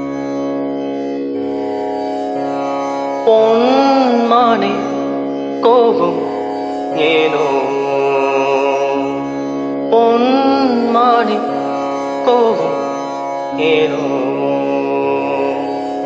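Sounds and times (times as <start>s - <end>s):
ornamented gliding melody: 0.0s - 16.0s.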